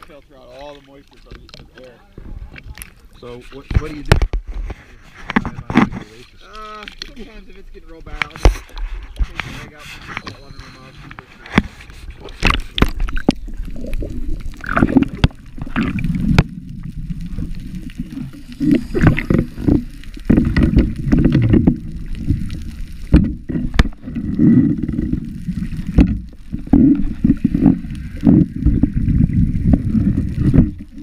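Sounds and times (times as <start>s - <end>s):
muffled underwater sloshing: 0.0s - 31.0s.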